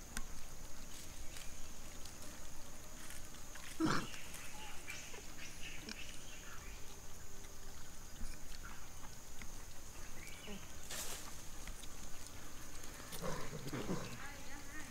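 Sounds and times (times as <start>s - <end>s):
steady high hiss: 0.0s - 14.9s.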